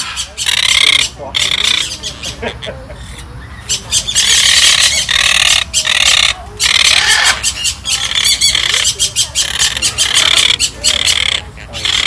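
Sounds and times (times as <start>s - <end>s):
parrots screeching: 0.0s - 12.0s.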